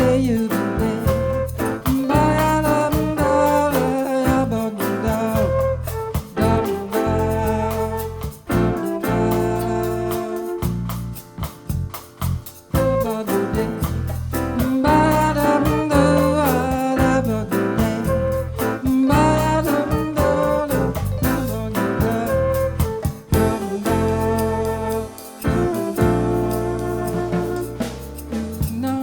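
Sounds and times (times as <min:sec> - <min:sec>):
bending melody line: 0:00.0 - 0:29.0
bossa nova band playing: 0:00.0 - 0:29.0.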